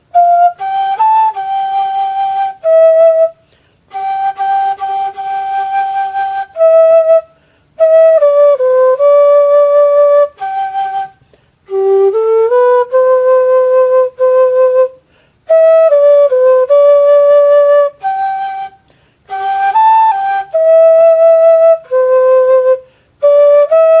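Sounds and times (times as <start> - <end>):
pipe flute melody: 0.0 - 24.0.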